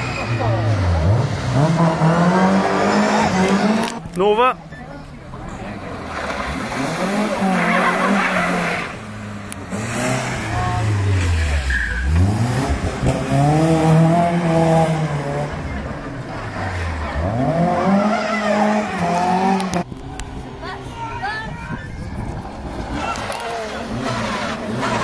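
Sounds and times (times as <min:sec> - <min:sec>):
rally car engine revving: 0:00.0 - 0:04.2, 0:05.4 - 0:20.4, 0:22.3 - 0:25.0.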